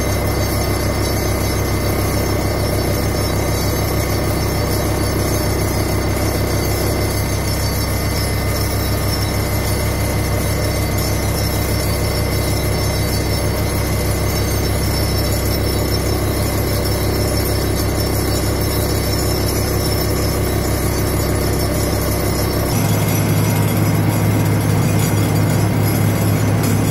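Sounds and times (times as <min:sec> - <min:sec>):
vibratory pile driver droning: 0:00.0 - 0:26.9.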